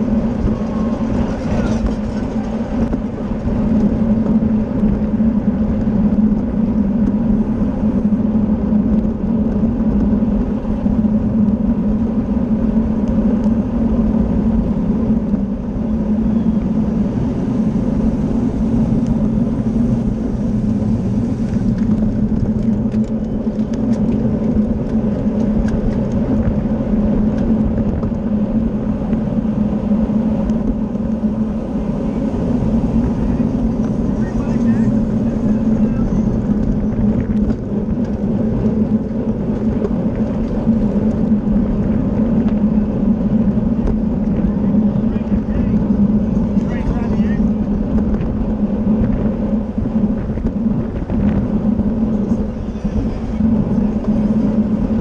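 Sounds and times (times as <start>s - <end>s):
bicycle road and drivetrain hum: 0.0s - 55.0s
wind rushing over microphone: 0.0s - 55.0s.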